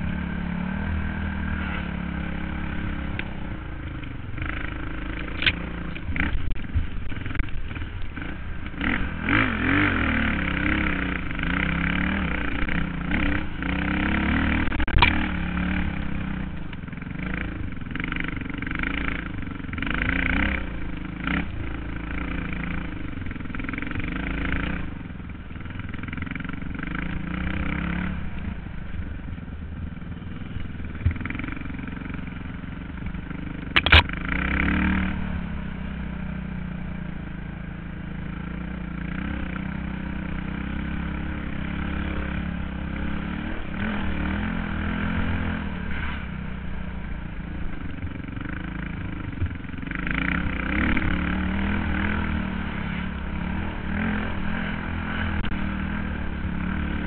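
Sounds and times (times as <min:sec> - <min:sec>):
dirt bike engine revving: 0:00.0 - 0:25.0, 0:25.6 - 0:29.0, 0:30.3 - 0:57.0.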